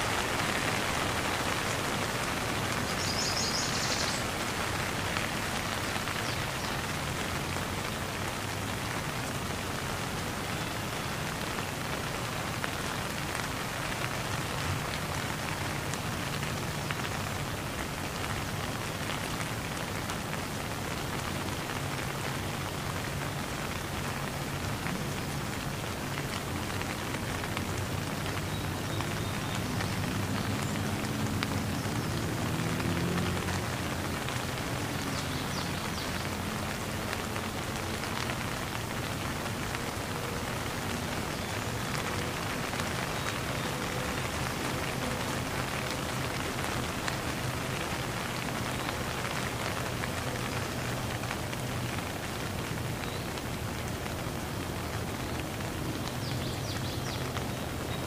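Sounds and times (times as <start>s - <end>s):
rain splattering on wet surface: 0.0s - 58.0s.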